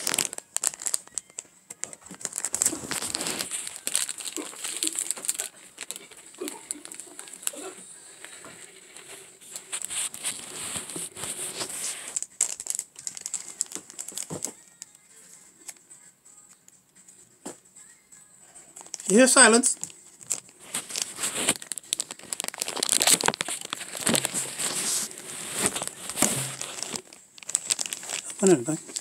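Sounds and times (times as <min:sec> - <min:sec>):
plastic bag crinkling: 0:00.0 - 0:15.0, 0:18.8 - 0:29.0.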